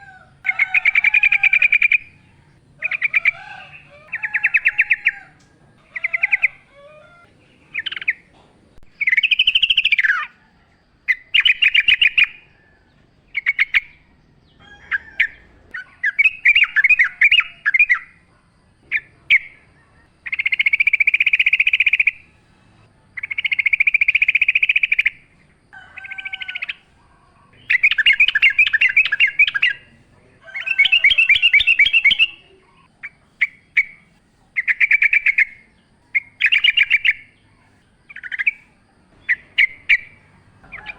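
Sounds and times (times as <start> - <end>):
bulbul singing chattering phrases: 0.0 - 40.9.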